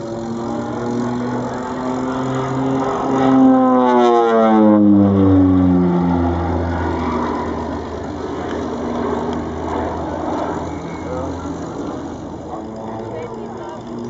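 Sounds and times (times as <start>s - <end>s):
turboprop aircraft fly-by: 0.0s - 14.0s.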